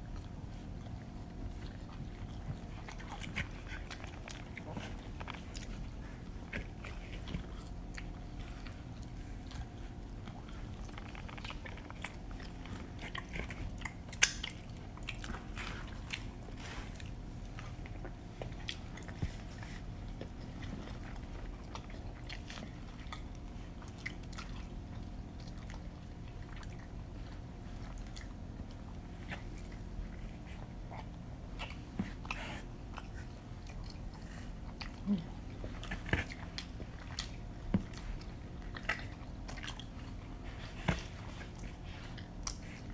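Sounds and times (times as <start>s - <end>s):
biting and chewing: 0.0s - 42.9s
steady low hum: 0.0s - 42.9s.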